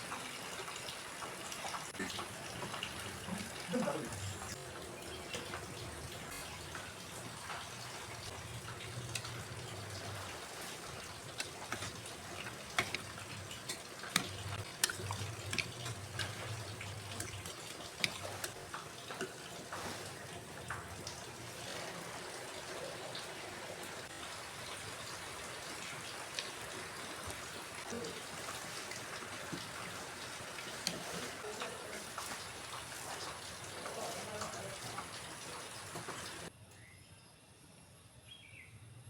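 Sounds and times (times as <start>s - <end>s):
water running and splashing: 0.0s - 36.5s.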